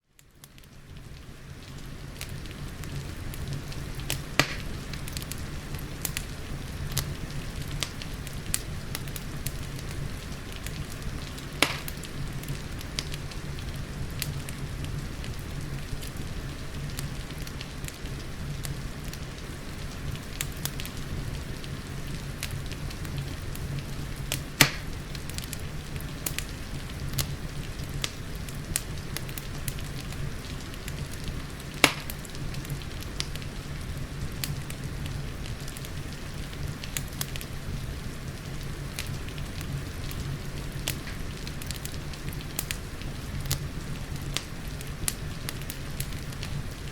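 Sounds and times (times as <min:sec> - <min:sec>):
wood fire crackling and popping: 0:00.1 - 0:46.9
rain hissing: 0:00.8 - 0:46.9.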